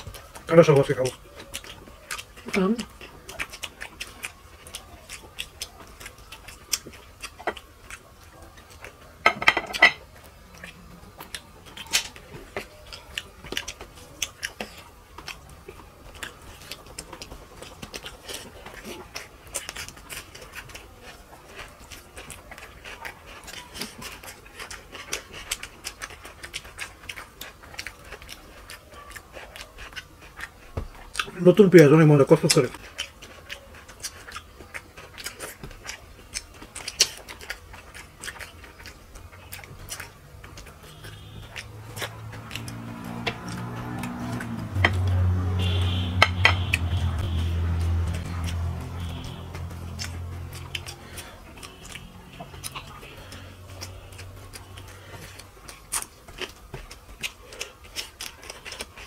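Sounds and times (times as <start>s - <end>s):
chewing and lip smacking: 0.0s - 59.0s.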